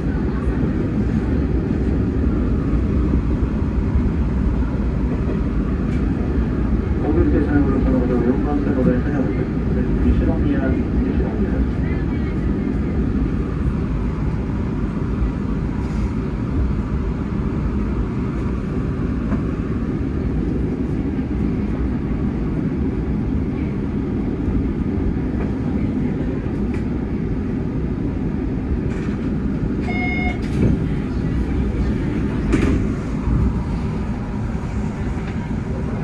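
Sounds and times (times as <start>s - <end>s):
electric train rumbling at standstill: 0.0s - 36.0s.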